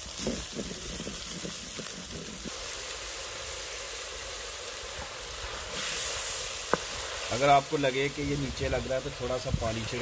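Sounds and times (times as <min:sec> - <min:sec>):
onions sizzling in a pot: 0:00.0 - 0:10.0.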